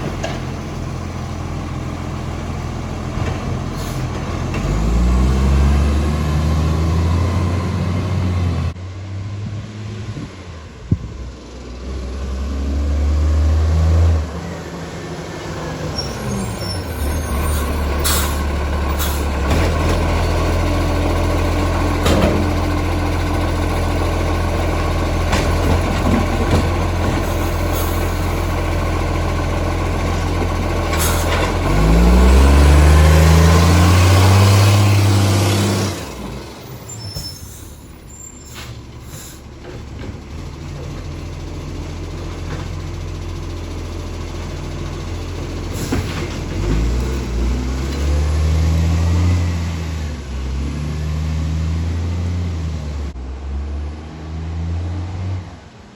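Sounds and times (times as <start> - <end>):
diesel truck engine idling and revving: 0.0 - 55.9.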